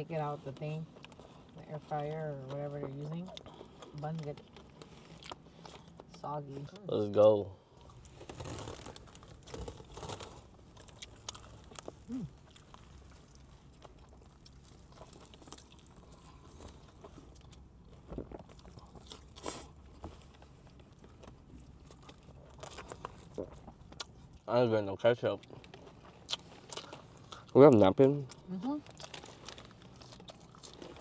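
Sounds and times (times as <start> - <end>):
person chewing crunchy food: 0.9 - 6.8, 7.8 - 24.5, 25.3 - 31.0.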